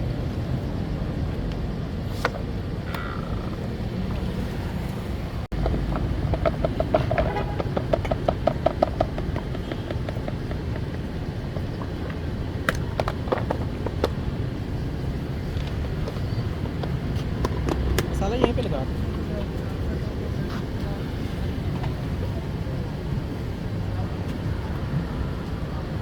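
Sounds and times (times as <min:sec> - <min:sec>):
street background rumble: 0:00.0 - 0:26.0.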